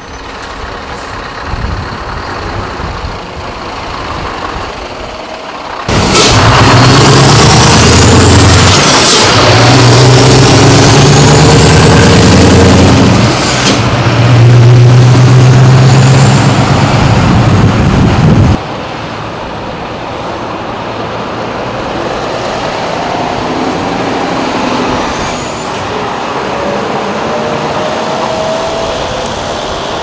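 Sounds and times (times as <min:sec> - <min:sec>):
road traffic passing: 0:00.0 - 0:30.0
truck engine droning: 0:00.0 - 0:30.0.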